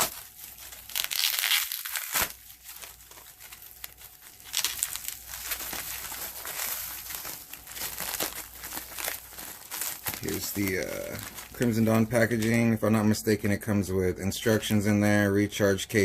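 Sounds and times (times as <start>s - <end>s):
plastic wrap crinkling: 0.0s - 13.4s.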